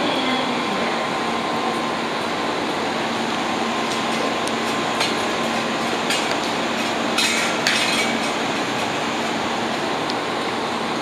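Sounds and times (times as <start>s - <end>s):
electric train humming: 0.0s - 11.0s
railway platform din: 0.0s - 11.0s.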